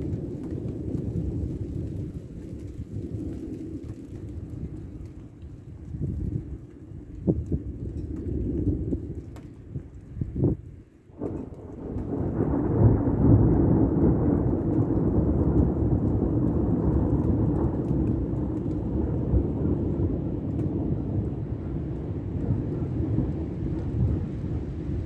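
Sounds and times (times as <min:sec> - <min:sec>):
thunder rumbling: 0:00.0 - 0:25.0.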